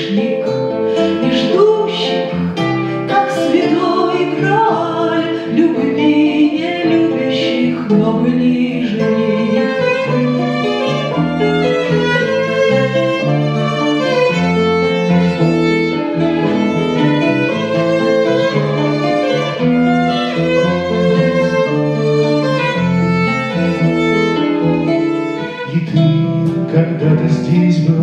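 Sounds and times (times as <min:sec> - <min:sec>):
violin melody: 0:00.0 - 0:28.0
lower instrumental accompaniment: 0:05.3 - 0:28.0.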